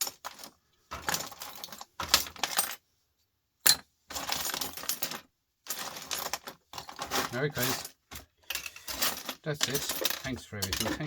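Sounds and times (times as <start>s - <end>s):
scrap parts clattering: 0.0s - 2.8s, 3.7s - 11.0s.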